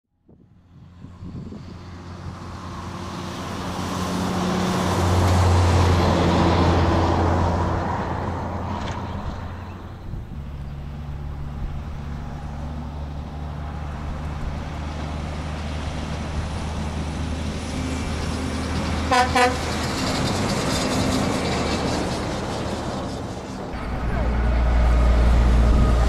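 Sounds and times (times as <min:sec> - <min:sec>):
vehicle engine humming: 0:00.5 - 0:26.0
heavy vehicle passing: 0:00.6 - 0:26.0.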